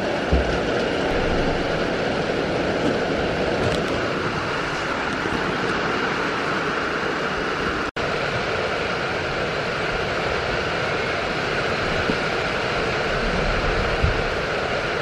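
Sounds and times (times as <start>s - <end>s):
rain on a roof: 0.0s - 15.0s.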